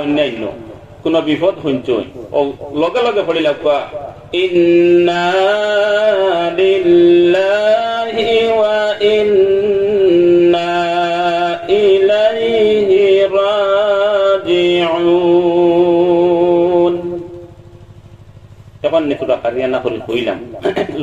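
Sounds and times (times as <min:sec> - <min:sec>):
man chanting in sing-song melody: 0:00.0 - 0:17.5, 0:18.8 - 0:21.0.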